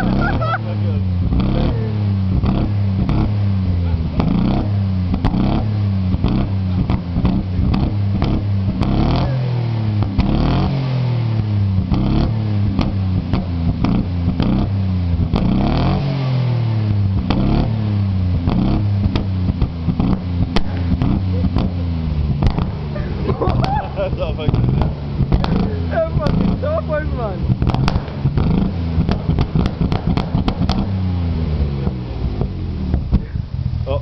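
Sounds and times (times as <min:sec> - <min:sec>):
engine revving: 0:00.0 - 0:34.0
exhaust cracks and pops: 0:02.3 - 0:34.0.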